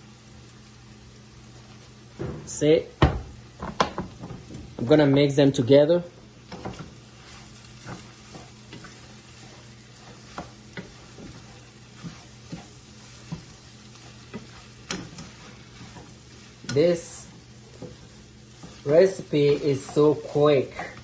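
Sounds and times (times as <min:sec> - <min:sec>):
noodles sizzling in frying pan: 0:00.0 - 0:21.0.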